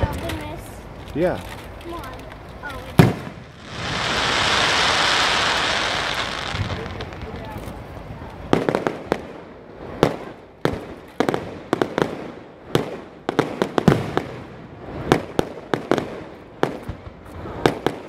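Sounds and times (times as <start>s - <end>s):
fireworks bursting: 2.0s - 18.0s.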